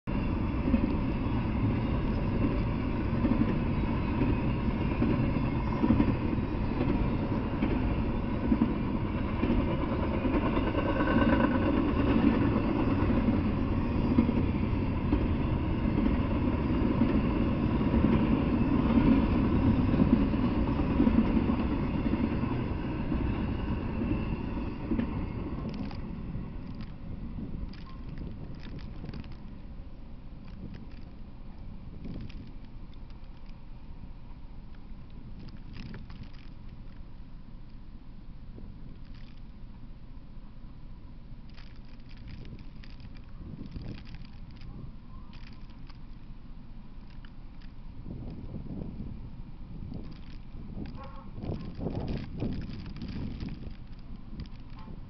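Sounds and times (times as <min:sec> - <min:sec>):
freight train wheels rumbling on rails: 0:00.1 - 0:55.0.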